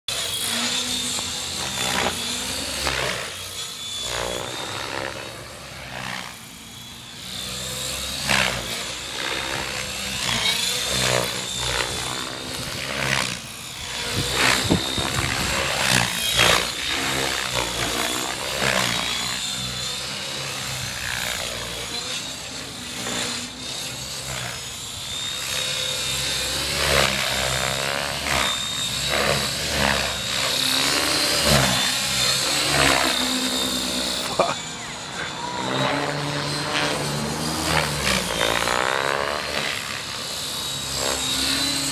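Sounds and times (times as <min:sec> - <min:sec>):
rotor blade whooshes: 0:00.1 - 0:34.4
model helicopter whine: 0:00.1 - 0:41.9.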